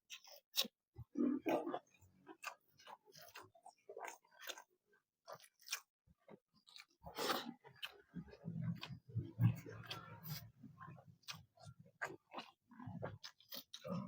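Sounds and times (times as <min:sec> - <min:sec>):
wet chewing: 0:00.1 - 0:14.0.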